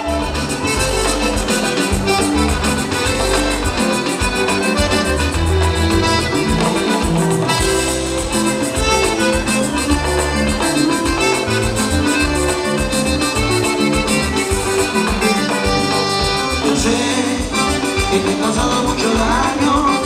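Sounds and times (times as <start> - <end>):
latin dance band instrumental: 0.0 - 20.0.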